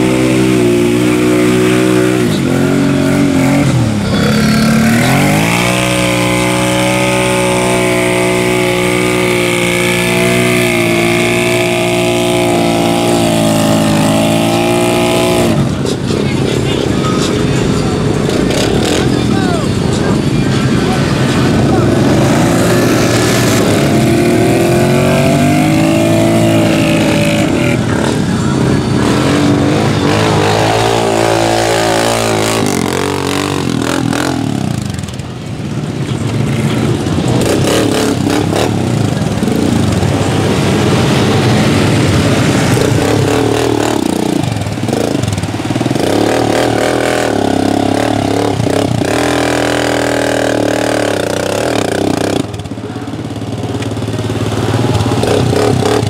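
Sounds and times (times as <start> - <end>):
atv engines revving: 0.0 - 56.0.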